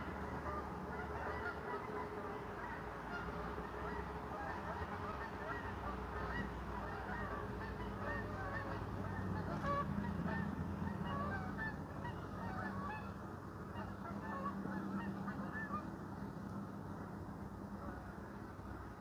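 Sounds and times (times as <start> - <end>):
geese honking: 0.0 - 16.0, 17.8 - 18.4.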